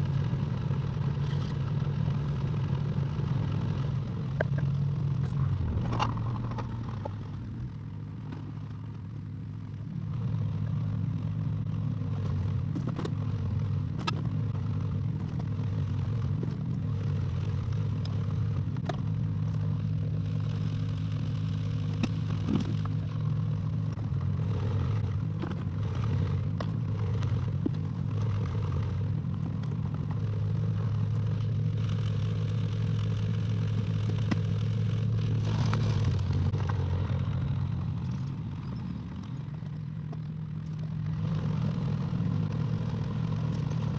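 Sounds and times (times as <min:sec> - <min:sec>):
excavator engine running: 0:00.0 - 0:43.9.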